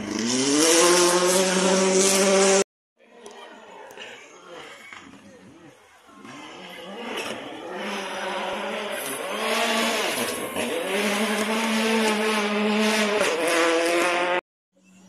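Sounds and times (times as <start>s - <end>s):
rally car engine at full throttle: 0.0s - 2.7s, 4.0s - 14.4s.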